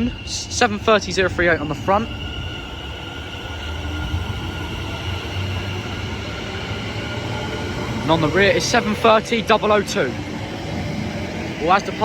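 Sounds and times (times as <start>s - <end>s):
electric train pulling out: 0.0s - 12.0s.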